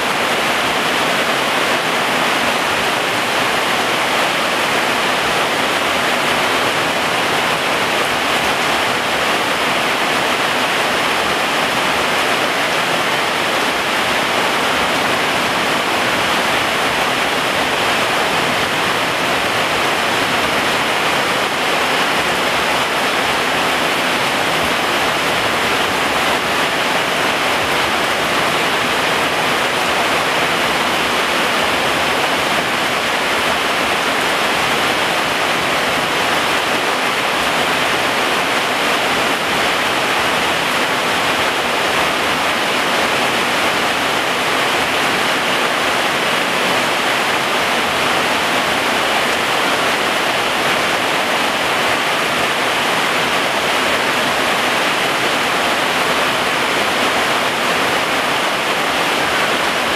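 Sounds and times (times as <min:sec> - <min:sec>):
heavy rain on foliage: 0:00.0 - 0:59.9.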